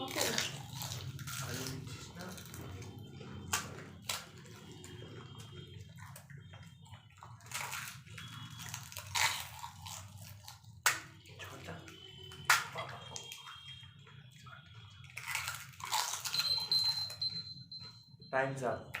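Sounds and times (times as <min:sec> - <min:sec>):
wet crunching and slurping: 0:00.0 - 0:17.2.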